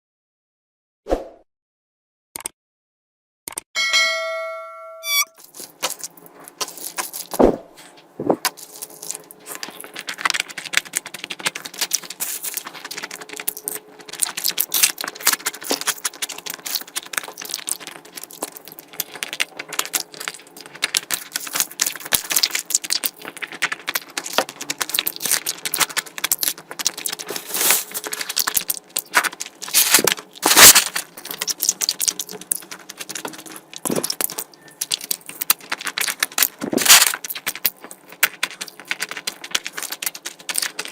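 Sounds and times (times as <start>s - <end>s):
wet chewing: 5.4s - 40.9s.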